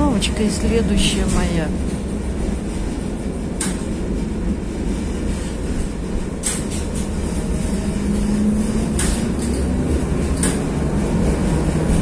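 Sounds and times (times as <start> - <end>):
tram rumble: 0.0 - 12.0.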